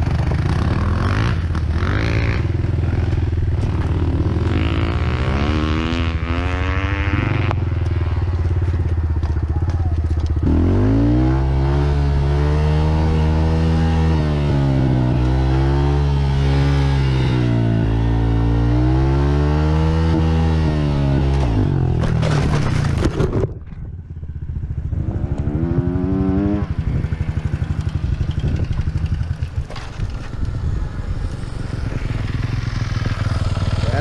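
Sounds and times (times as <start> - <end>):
dirt bike engine revving: 0.0 - 23.0, 24.6 - 29.6, 31.3 - 34.0.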